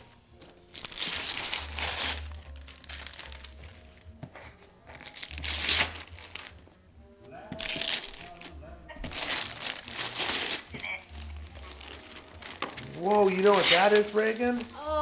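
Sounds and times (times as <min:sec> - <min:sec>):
paper rustling: 0:00.0 - 0:06.8, 0:07.5 - 0:15.0
wrapping paper tearing: 0:00.6 - 0:06.6, 0:07.6 - 0:15.0.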